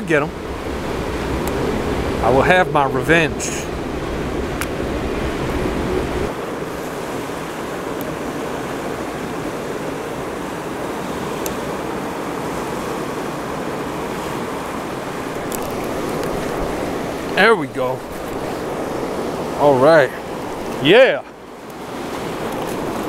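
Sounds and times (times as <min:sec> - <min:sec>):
river rapids rushing: 0:00.0 - 0:23.0
wind rumbling on microphone: 0:00.0 - 0:23.0.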